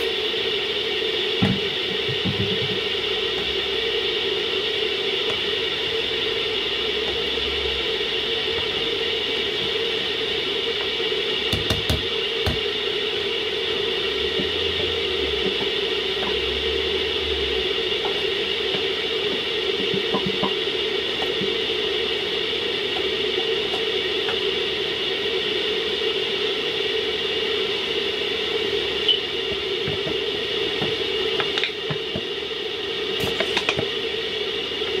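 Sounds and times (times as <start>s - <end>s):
soup boiling in a pot: 0.0s - 35.0s.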